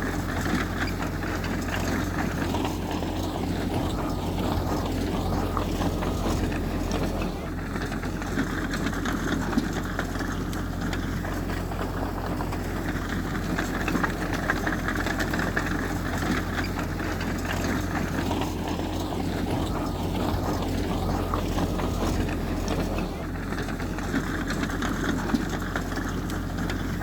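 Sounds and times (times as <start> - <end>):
heavy diesel machinery engine drone: 0.0 - 27.0.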